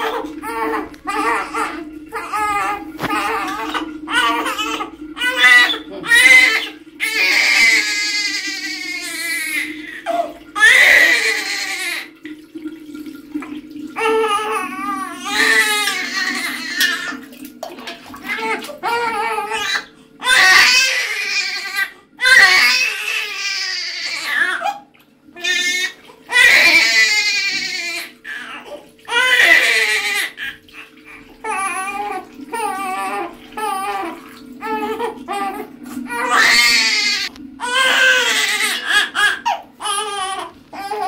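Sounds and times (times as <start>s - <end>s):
newborn baby crying: 0.0s - 12.1s, 14.0s - 17.2s, 18.2s - 24.8s, 25.4s - 41.0s.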